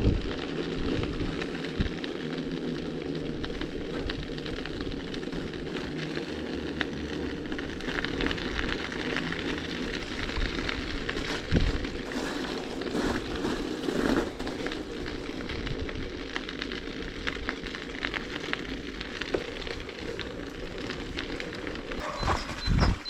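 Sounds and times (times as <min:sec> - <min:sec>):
bicycle tyres crunching snow: 0:00.0 - 0:23.0.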